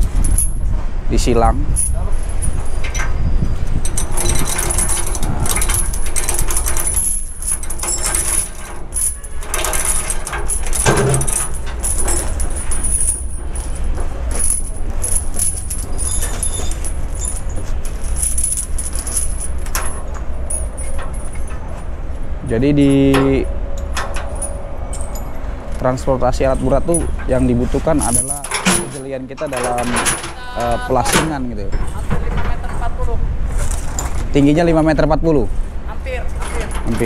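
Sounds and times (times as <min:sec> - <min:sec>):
steel chains clinking: 0:00.0 - 0:33.0, 0:33.6 - 0:34.6, 0:36.1 - 0:37.0
steady low rumble: 0:00.0 - 0:37.0.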